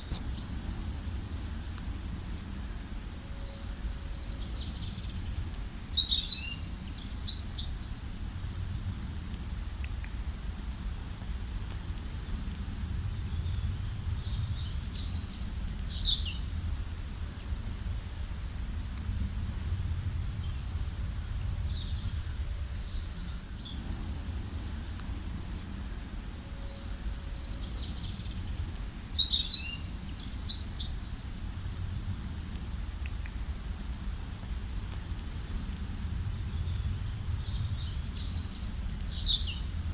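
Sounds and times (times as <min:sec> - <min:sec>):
songbirds singing: 0:00.0 - 0:08.4, 0:09.2 - 0:10.9, 0:11.9 - 0:19.0, 0:20.0 - 0:34.1, 0:34.9 - 0:39.9
low background rumble: 0:00.0 - 0:39.9.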